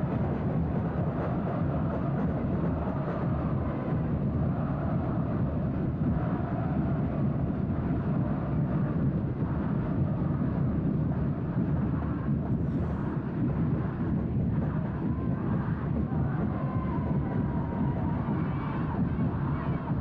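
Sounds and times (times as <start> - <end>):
stadium crowd roaring: 0.0 - 20.0.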